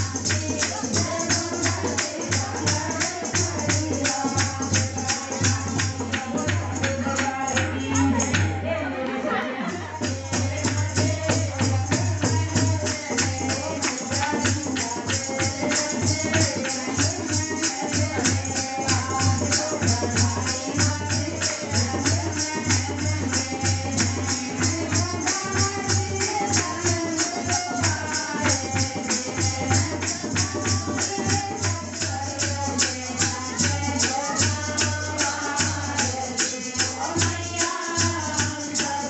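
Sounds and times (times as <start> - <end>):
jingling percussion: 0.0 - 39.0
woman singing into a microphone: 0.0 - 39.0.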